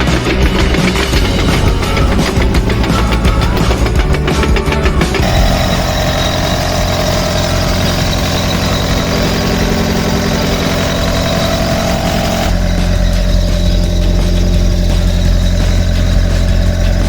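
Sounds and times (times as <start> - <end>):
excavator diesel engine running: 0.0 - 17.0
high steady whine: 0.0 - 17.0.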